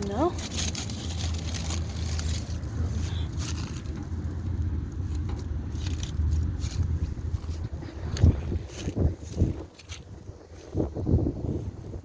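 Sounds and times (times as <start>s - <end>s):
crackles: 0.0s - 10.8s
low rumble: 0.0s - 12.0s.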